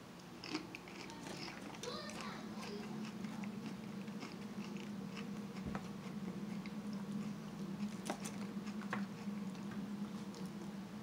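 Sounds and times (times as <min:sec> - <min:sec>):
steady low hum: 0:00.0 - 0:11.0
close chewing and biting: 0:00.2 - 0:10.7.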